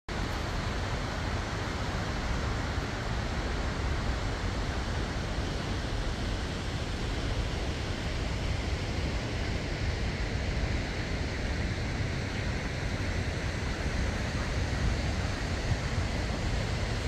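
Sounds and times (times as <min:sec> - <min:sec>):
waterfall roaring: 0:00.1 - 0:17.0
wind on microphone: 0:00.2 - 0:17.0.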